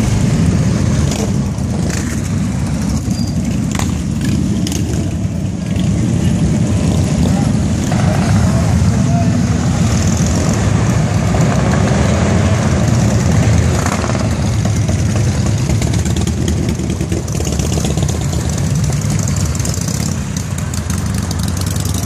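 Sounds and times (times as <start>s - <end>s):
motorcycles riding past: 0.0s - 22.0s
street traffic: 0.0s - 22.0s.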